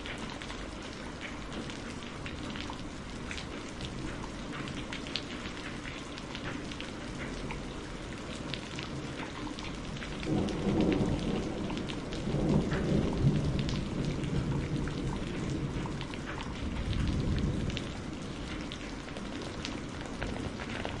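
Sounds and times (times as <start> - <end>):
heavy rain falling: 0.0 - 21.0
low rumble of thunder: 0.1 - 21.0.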